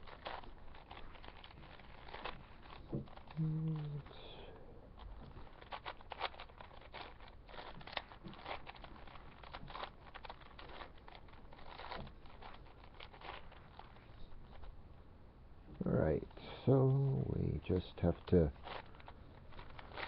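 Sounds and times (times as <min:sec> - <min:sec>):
plastic puzzle cube clicking: 0:00.0 - 0:04.3, 0:04.9 - 0:14.7, 0:17.8 - 0:20.0.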